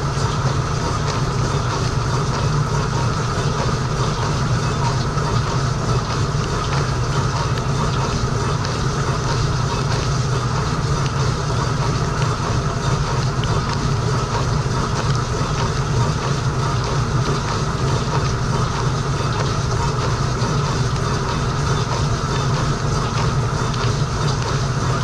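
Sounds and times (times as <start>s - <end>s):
wash pump humming: 0.0s - 25.0s
water jets spattering: 0.0s - 25.0s.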